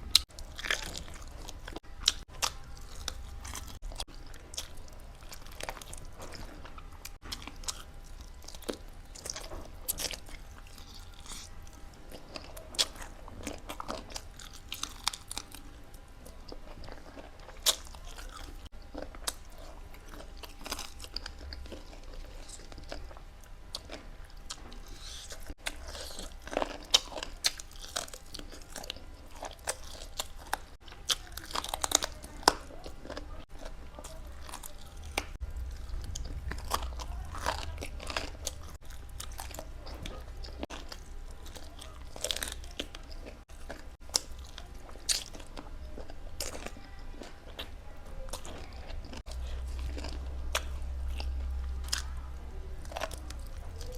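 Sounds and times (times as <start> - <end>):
chewing crunchy food: 0.0 - 53.9.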